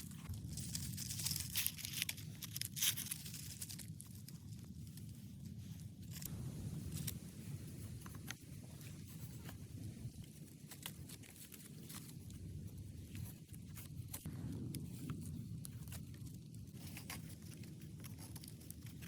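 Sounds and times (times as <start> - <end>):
light clicks and scrapes of handling: 0.0 - 19.0
steady low rumble: 0.0 - 19.0.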